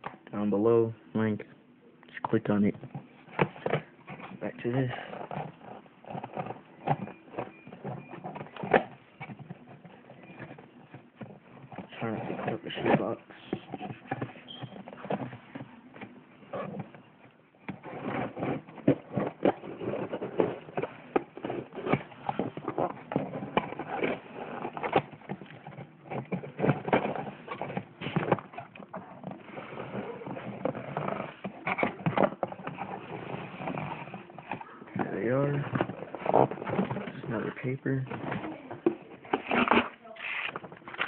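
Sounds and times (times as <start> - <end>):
cardboard box being handled: 2.7 - 41.0.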